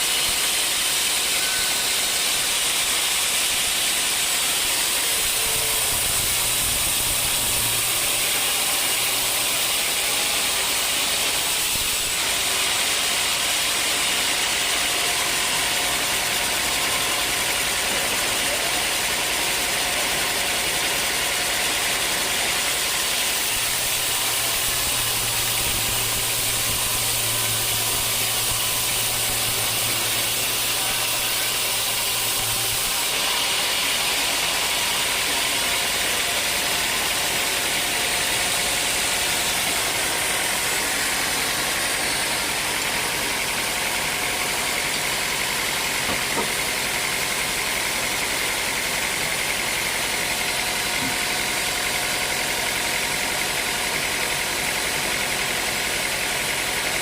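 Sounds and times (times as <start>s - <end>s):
saw blade hissing through wood: 0.0s - 52.5s
sawmill machine noise: 0.0s - 57.0s.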